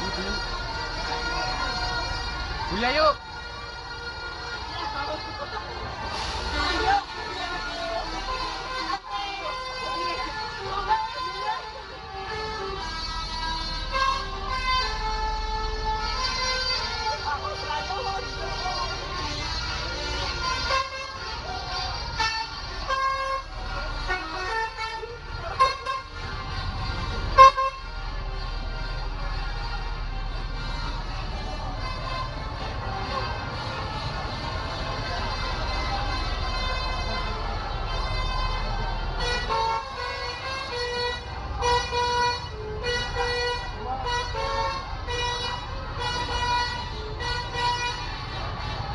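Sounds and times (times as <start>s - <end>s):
low rumble of engines: 0.0s - 48.9s
musical bus horns: 0.0s - 48.9s.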